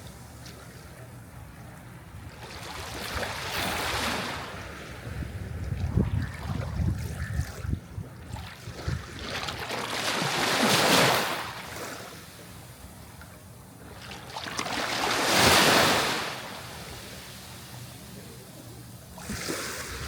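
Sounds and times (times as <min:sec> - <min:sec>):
sea waves breaking: 0:02.0 - 0:13.0, 0:13.8 - 0:20.0.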